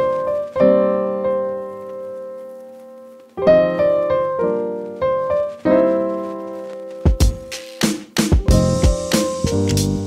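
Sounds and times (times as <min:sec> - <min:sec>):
electric piano chords: 0:00.0 - 0:10.0.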